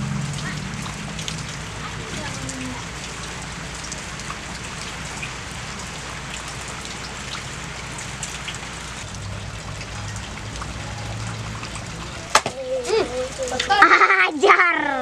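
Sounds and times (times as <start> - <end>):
rain falling on wet ground: 0.0 - 15.0.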